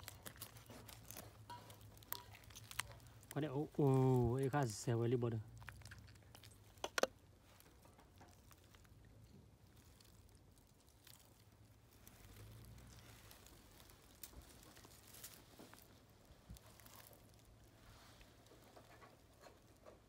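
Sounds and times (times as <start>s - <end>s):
wet handling sounds: 0.0s - 20.0s.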